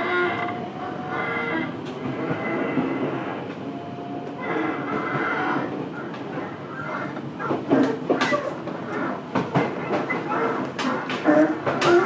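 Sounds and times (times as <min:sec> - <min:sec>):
wheel and rail noise: 0:00.0 - 0:12.0.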